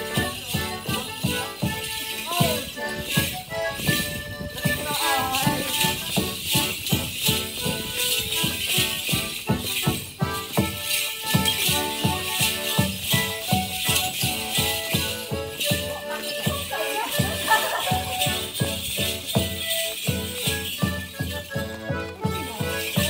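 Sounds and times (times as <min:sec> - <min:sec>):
accordions playing dance tune: 0:00.0 - 0:23.0
bells jingling: 0:00.0 - 0:23.0.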